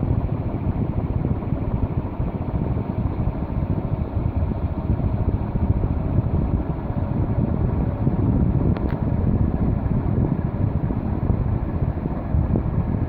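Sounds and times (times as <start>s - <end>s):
ceiling fan whoosh: 0.0s - 13.0s
wind buffeting microphone: 0.0s - 13.0s.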